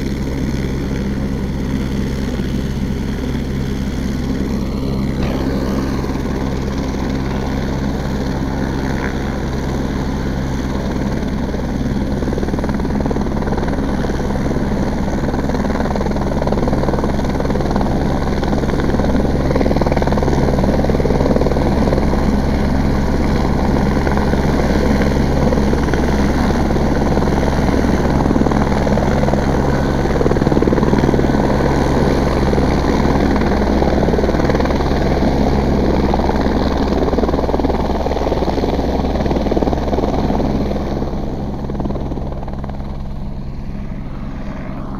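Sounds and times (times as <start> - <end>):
helicopter rotor drone: 0.0 - 44.9.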